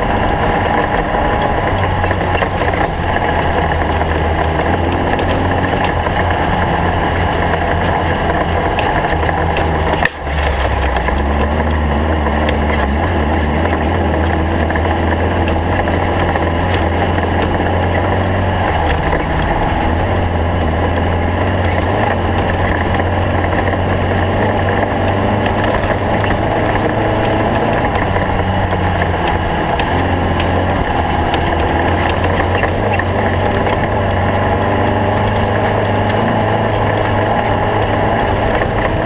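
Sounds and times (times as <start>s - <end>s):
car engine droning under load: 0.0s - 39.0s
road noise: 0.0s - 39.0s.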